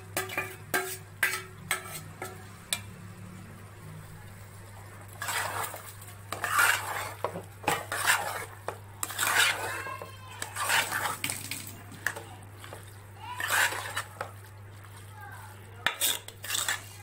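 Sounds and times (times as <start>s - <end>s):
spoon scraping metal pot: 0.0s - 2.9s, 5.2s - 15.1s, 15.8s - 17.0s.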